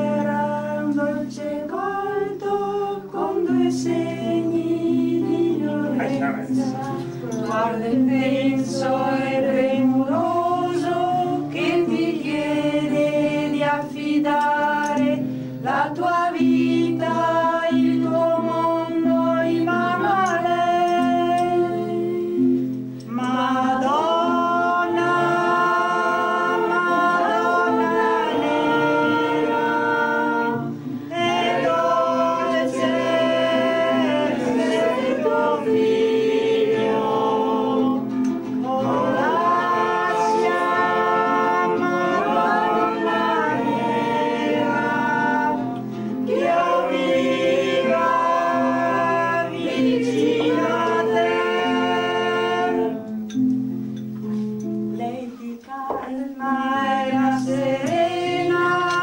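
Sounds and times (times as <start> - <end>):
group singing a hymn: 0.0 - 53.4, 54.2 - 59.0
acoustic guitar: 0.0 - 59.0.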